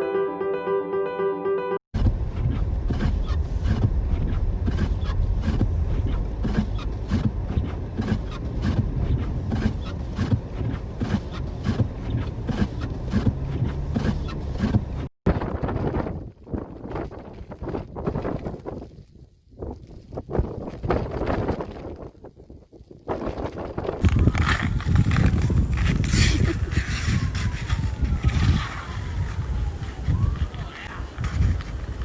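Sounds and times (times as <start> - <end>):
blizzard wind buffeting microphone: 2.0 - 32.0.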